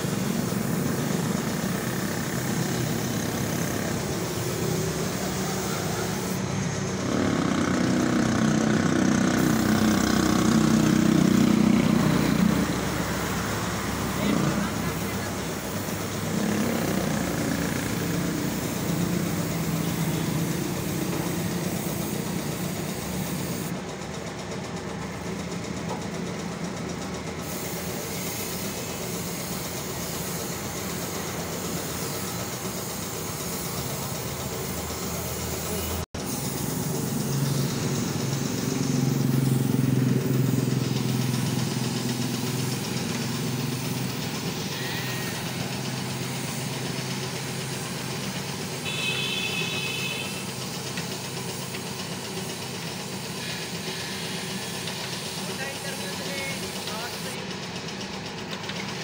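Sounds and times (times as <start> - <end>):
paint spray gun hissing: 0.0 - 23.8, 26.6 - 58.9.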